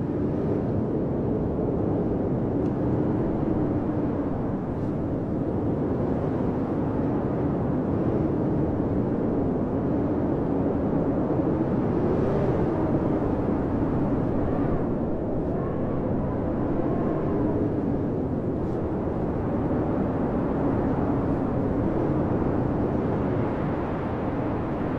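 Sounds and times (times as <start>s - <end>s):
blizzard wind howling: 0.0s - 24.9s.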